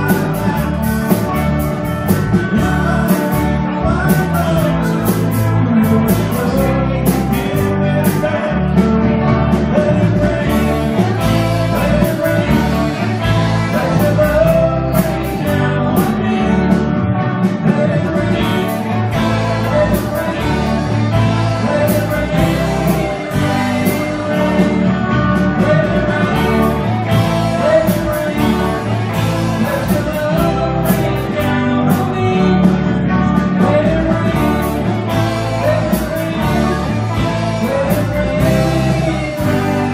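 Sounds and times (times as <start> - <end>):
drum kit: 0.0 - 39.9
electric guitars: 0.0 - 39.9
wavering guitar lead line: 0.0 - 39.9.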